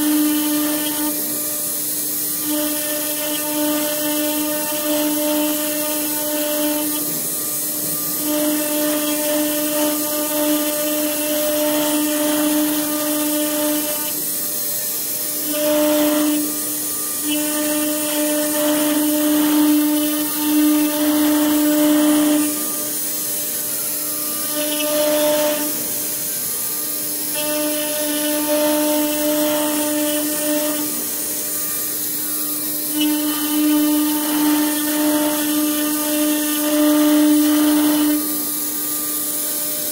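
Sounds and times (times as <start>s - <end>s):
router bit cutting wood: 0.0s - 39.9s
router spindle whine: 0.0s - 39.9s.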